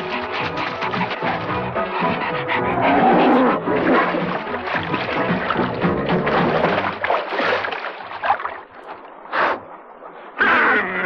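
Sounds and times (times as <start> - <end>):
river water splashing: 0.0 - 10.3.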